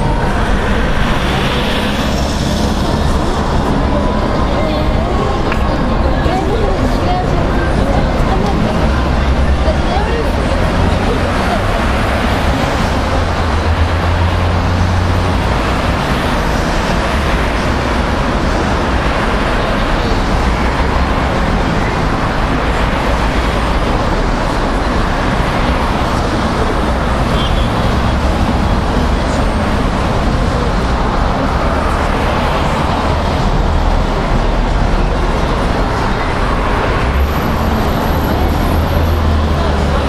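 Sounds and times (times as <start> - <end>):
cars driving past: 0.0 - 40.0.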